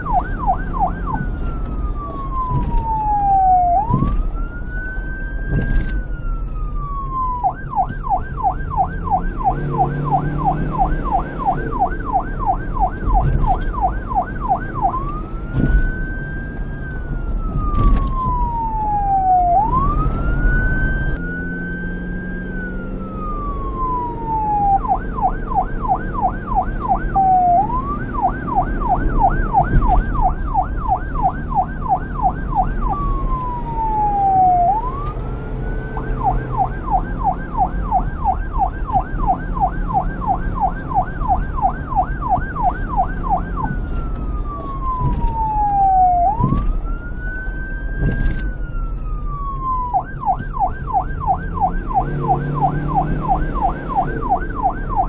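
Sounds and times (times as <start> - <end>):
police siren yelp and wail: 0.0 - 55.0.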